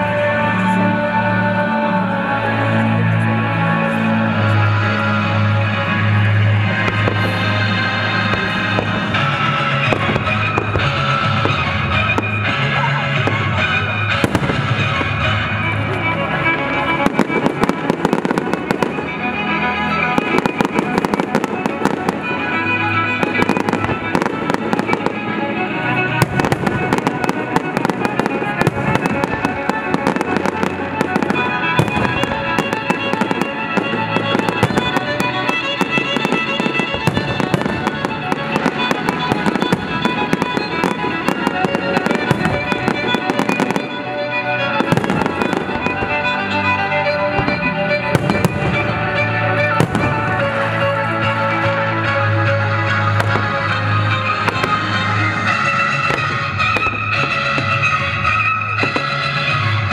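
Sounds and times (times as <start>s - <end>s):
loud music: 0.0s - 59.9s.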